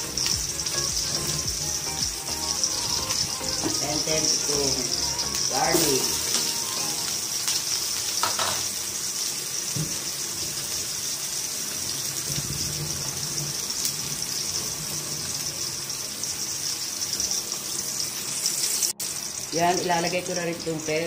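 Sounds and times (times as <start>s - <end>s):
onion and garlic sizzling: 0.0s - 21.0s.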